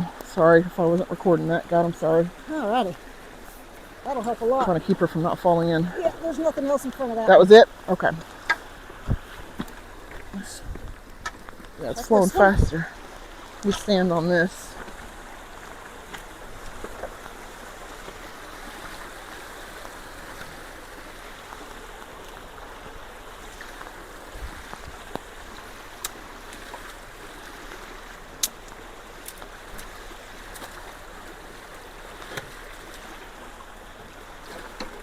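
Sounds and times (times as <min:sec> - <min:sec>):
water rushing through culvert: 0:00.0 - 0:35.0.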